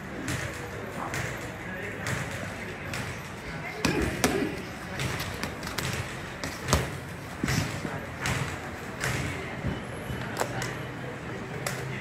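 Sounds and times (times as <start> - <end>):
boxing gloves punching thuds: 0.1 - 10.8.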